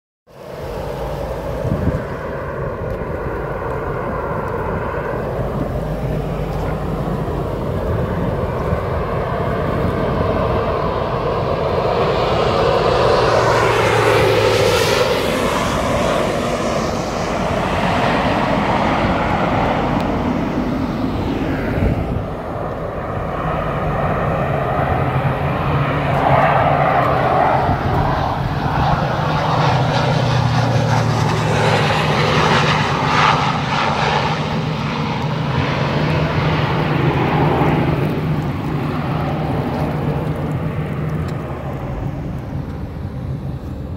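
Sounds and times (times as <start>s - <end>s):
propeller plane engine: 0.3s - 43.9s.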